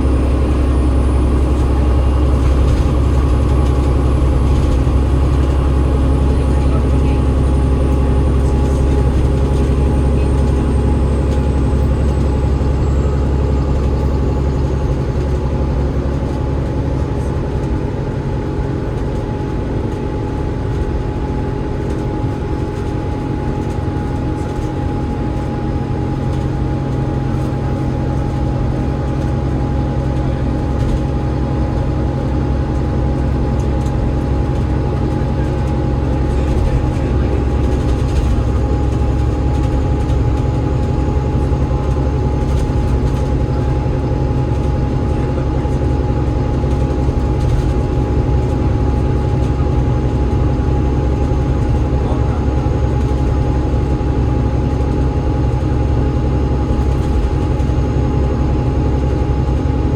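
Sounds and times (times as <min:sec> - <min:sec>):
road noise: 0:00.0 - 0:55.8
bus diesel engine drone: 0:00.0 - 0:59.9.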